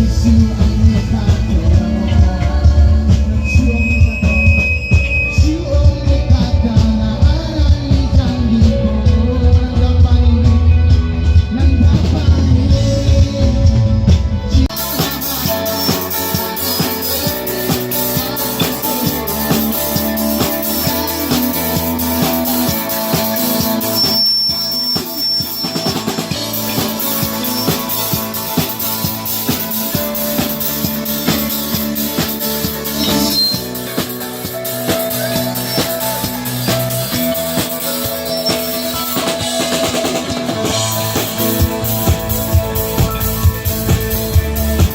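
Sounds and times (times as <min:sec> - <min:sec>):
drum kit playing: 0:00.0 - 0:44.9.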